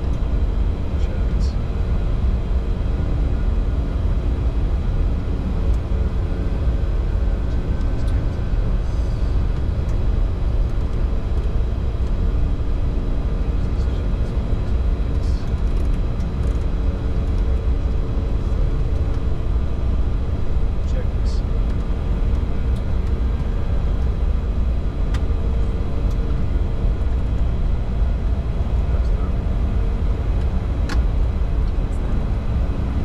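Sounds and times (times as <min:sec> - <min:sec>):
faint steady hums: 0:00.0 - 0:33.0
jet engine low rumble: 0:00.0 - 0:33.0.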